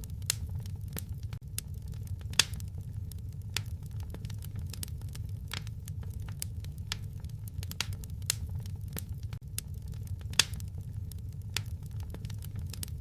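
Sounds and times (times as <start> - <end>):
low steady rumble: 0.0 - 13.0
sharp pops and snaps: 0.0 - 13.0
wood fire crackling: 0.0 - 13.0.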